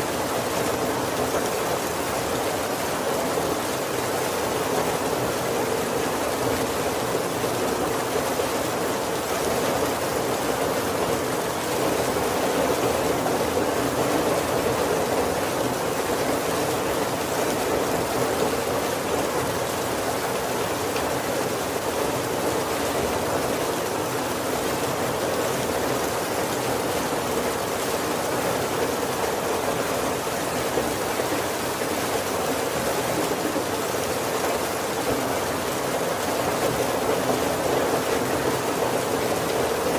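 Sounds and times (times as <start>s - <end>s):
heavy rain on a wooden roof: 0.0s - 39.9s.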